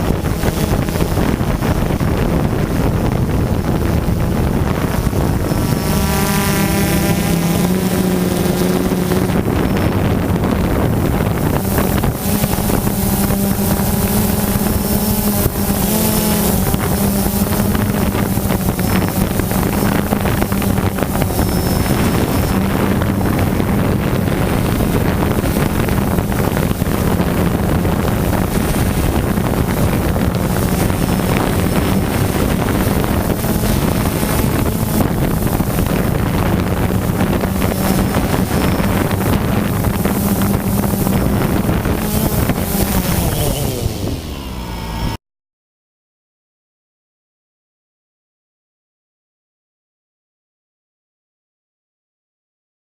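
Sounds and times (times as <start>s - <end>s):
drone propellers buzzing: 0.0s - 45.2s
wind rushing over microphone: 0.0s - 45.2s.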